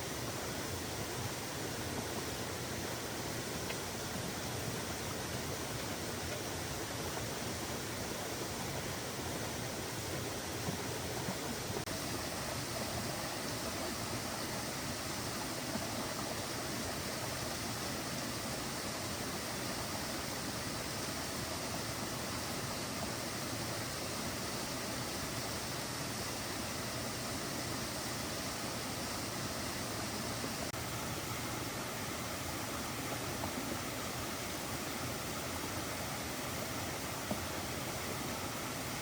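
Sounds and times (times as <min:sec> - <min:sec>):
water rushing: 0:00.0 - 0:39.0.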